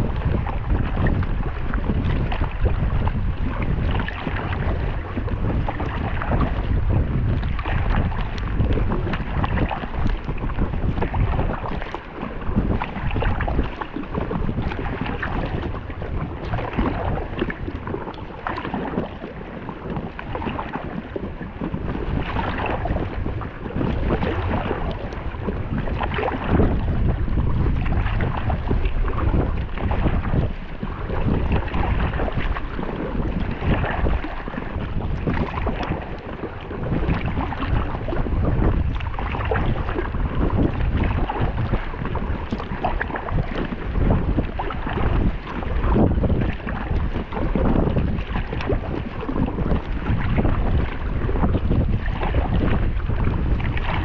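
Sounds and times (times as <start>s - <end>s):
water splashing against kayak: 0.0s - 54.0s
wind buffeting microphone: 0.0s - 54.0s.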